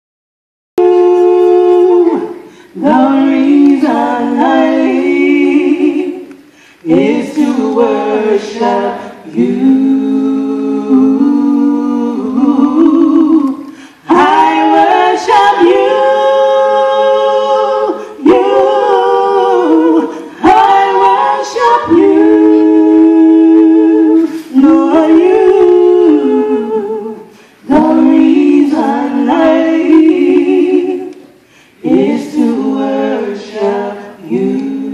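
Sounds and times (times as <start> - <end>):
women singing a cappella: 0.8 - 34.9.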